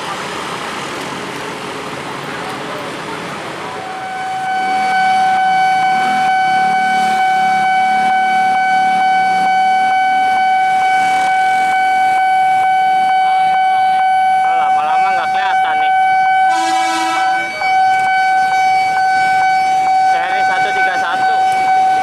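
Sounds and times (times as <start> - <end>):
level crossing alarm tone: 3.7 - 22.0.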